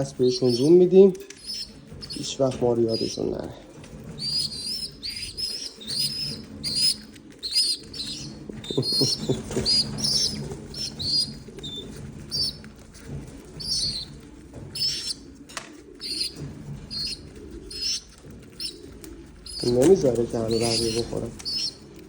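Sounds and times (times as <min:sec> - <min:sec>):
pigeons chirping and squeaking: 0:00.0 - 0:22.0
pigeons cooing: 0:00.0 - 0:22.0
wings flapping: 0:00.0 - 0:22.0.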